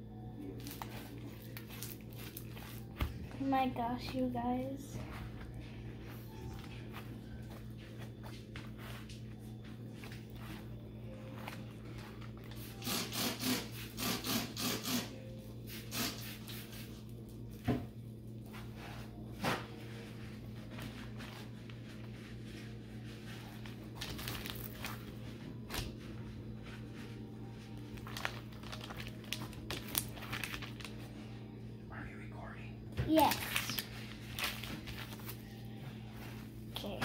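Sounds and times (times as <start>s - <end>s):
steady low hum: 0.0s - 14.0s, 15.0s - 37.0s.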